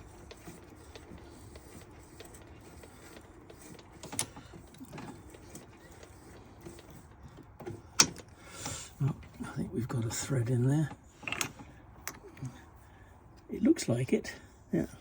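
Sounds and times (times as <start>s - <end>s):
tap ticking and scraping in lathe: 0.0s - 13.5s.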